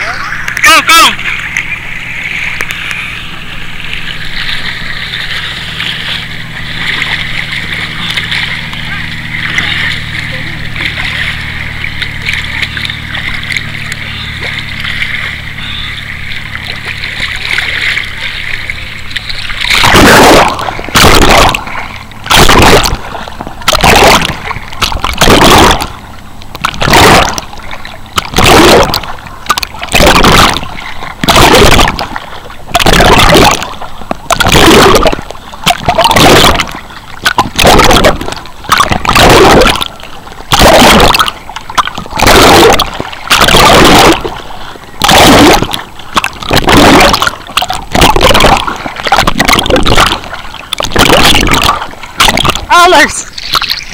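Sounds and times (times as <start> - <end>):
swimming strokes splashing: 0.0 - 53.9.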